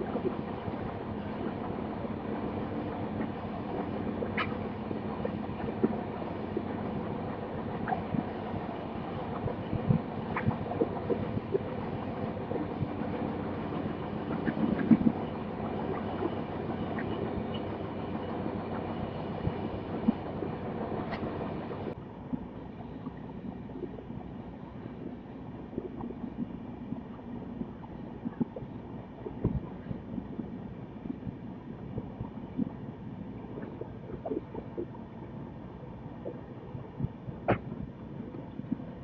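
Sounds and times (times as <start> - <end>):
train rumble: 0.0 - 34.9.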